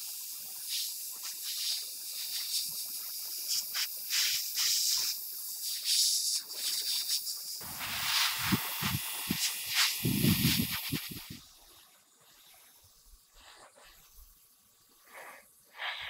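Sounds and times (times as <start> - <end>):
airbrush spraying hiss: 0.0 - 11.5, 12.3 - 16.0.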